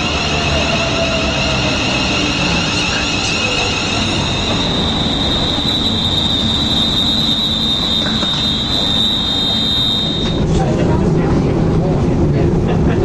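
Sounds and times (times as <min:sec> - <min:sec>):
high whine: 0:00.0 - 0:10.9
train rumbling on rails: 0:00.0 - 0:13.0.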